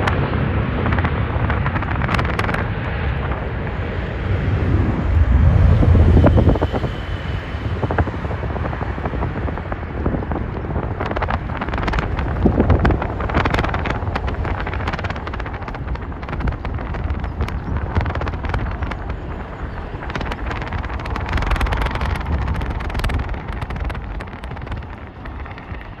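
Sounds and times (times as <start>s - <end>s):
jet engine rumble: 0.0s - 26.0s
wind buffeting microphone: 0.0s - 26.0s.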